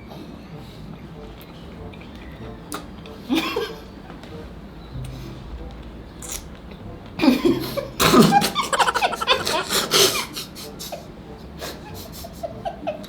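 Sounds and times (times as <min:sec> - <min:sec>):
people laughing: 0:01.0 - 0:13.0.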